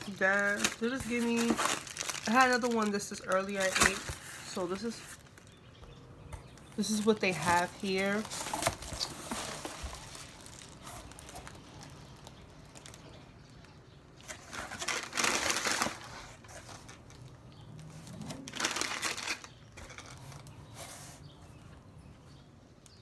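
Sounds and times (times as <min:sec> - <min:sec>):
plastic wrappers crinkling: 0:00.0 - 0:05.8, 0:06.5 - 0:20.6.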